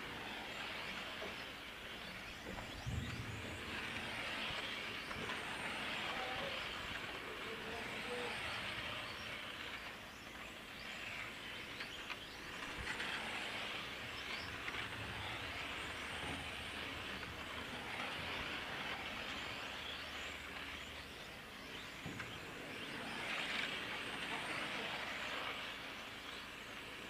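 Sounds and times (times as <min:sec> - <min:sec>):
rc cars whirring past: 0:00.0 - 0:27.0.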